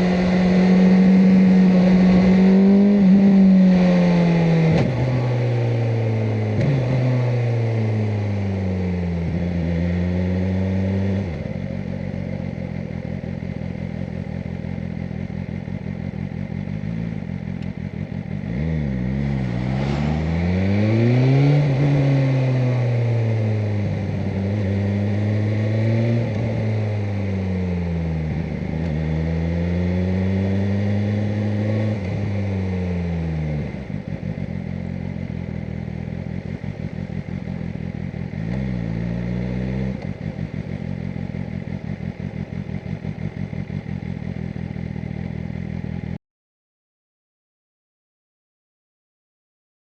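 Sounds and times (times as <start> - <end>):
motorcycle engine revving: 0.0 - 46.2.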